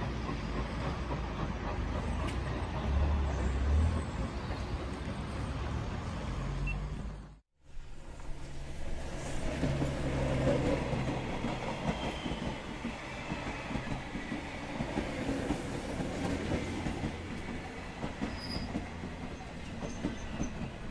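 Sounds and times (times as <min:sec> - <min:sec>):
clattering train wheels: 0:00.0 - 0:06.2, 0:08.9 - 0:20.9
train rumbling on rails: 0:00.0 - 0:20.9.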